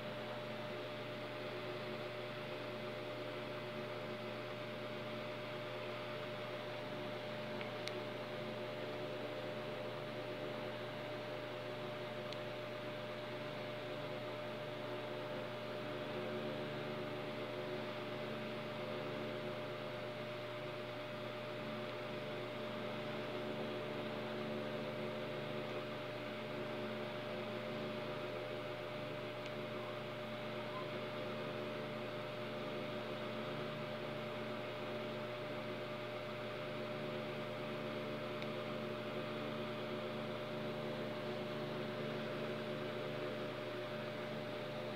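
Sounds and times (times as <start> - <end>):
steady hum with held tones: 0.0 - 44.9.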